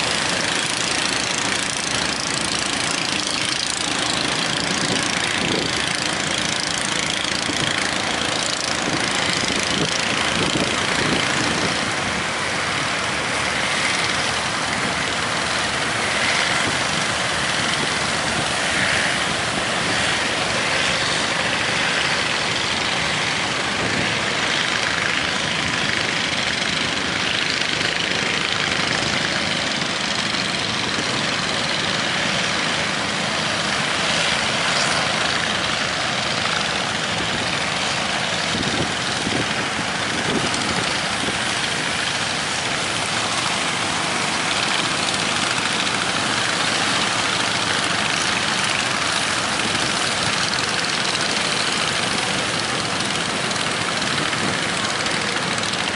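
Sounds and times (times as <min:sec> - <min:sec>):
boat engine running: 0:00.0 - 0:55.9
sea noise: 0:00.0 - 0:55.9
wind: 0:00.0 - 0:55.9.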